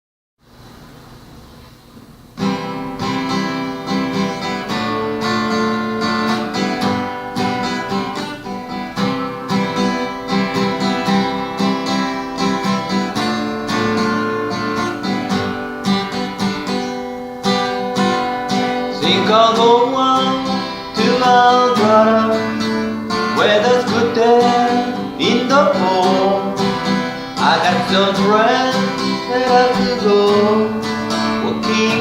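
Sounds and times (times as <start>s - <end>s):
acoustic guitar strummed and picked: 2.4s - 32.0s.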